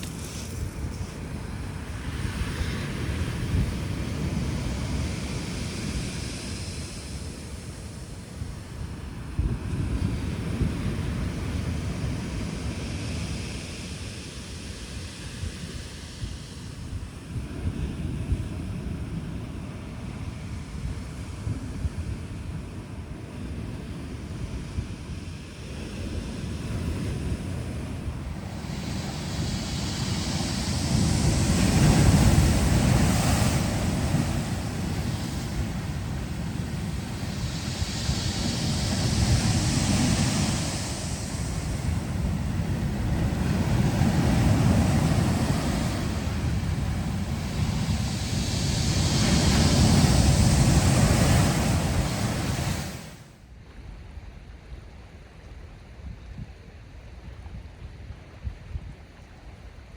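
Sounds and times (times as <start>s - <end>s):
sea waves breaking on shore: 0.0s - 53.4s
wind rumble on microphone: 0.0s - 59.9s.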